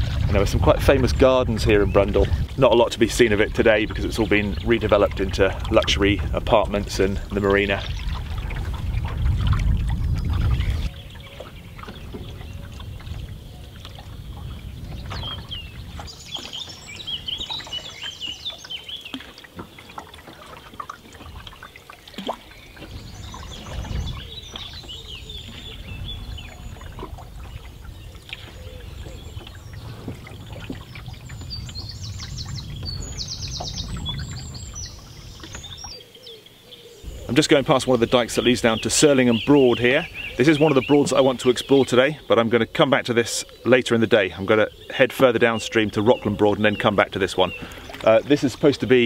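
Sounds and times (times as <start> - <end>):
birds chirping and trilling: 0.0 - 49.0
paddle strokes in water: 0.0 - 49.0.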